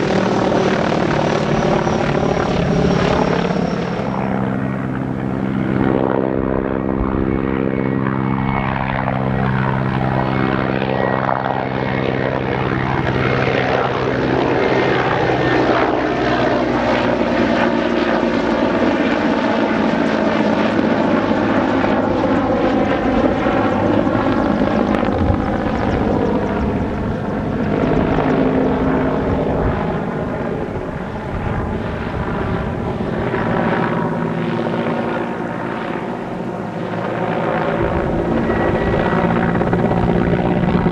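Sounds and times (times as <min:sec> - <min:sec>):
helicopter flying past: 0:00.0 - 0:40.9.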